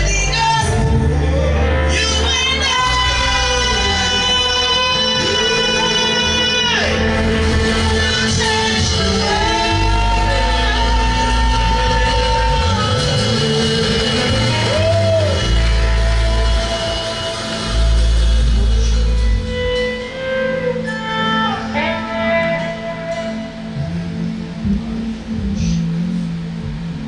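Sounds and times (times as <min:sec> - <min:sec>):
deep sustained bass chords: 0:00.0 - 0:27.0
person singing long sliding notes: 0:00.0 - 0:27.0.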